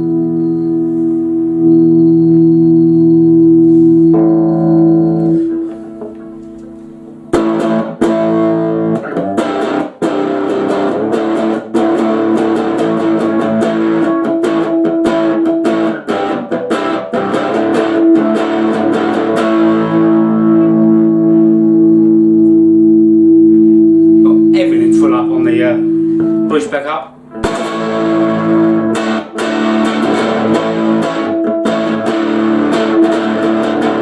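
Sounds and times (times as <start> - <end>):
electric guitar chords: 0.0 - 34.0.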